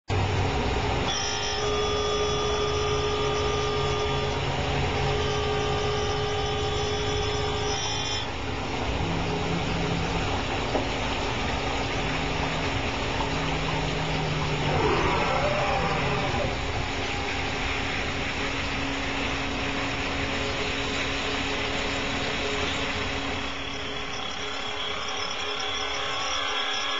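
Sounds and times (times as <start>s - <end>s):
high whine: 0.1s - 26.9s
low hum: 0.1s - 26.9s.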